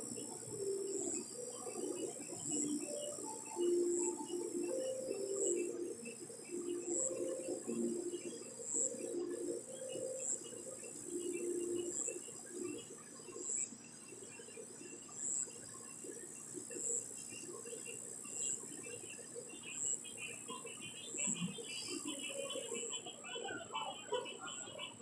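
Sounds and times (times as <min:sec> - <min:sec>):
low drawn-out insect calls: 0:00.0 - 0:25.0.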